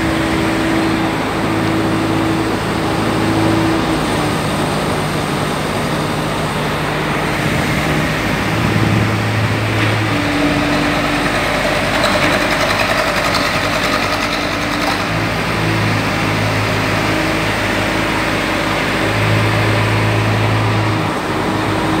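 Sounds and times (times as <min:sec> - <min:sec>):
engine and machinery noise: 0:00.0 - 0:22.0
low engine hum: 0:00.0 - 0:22.0.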